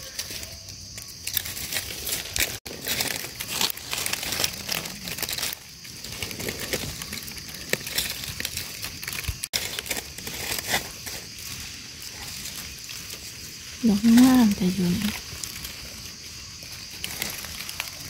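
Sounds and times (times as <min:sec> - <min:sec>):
dry leaves rustling and crunching: 0:00.0 - 0:18.0.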